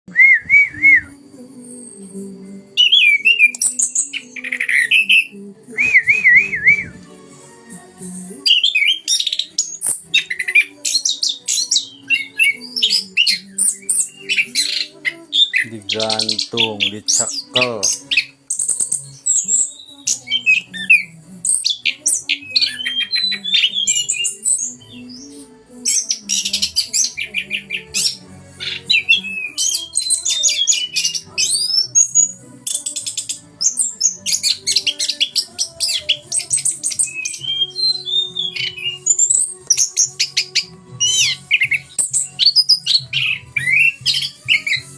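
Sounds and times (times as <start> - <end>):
thrush singing: 0.1 - 44.9.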